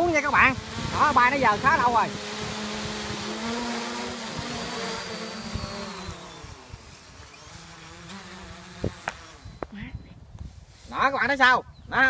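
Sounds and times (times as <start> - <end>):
quadcopter motors buzzing: 0.0 - 11.1.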